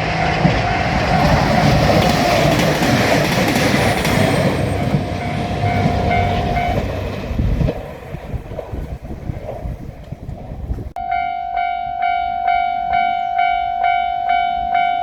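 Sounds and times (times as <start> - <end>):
train rumble and wheel clatter: 0.0 - 15.0.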